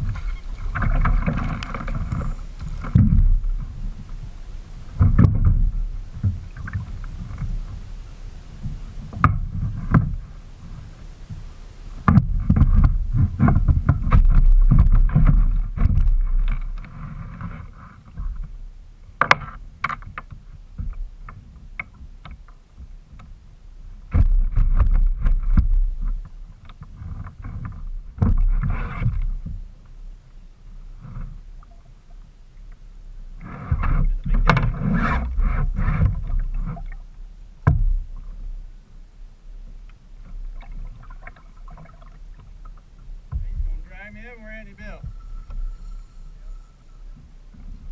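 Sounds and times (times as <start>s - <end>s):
kayak paddling: 0.0s - 47.9s
water against hull: 0.0s - 47.9s.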